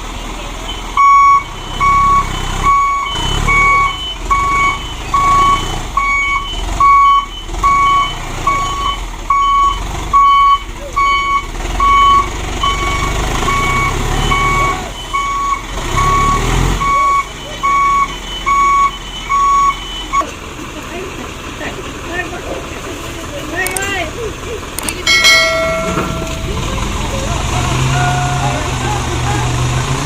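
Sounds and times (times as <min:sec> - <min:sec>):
truck engine rumble: 0:00.0 - 0:30.0
truck reversing alarm beeping: 0:00.1 - 0:20.3, 0:24.9 - 0:29.2.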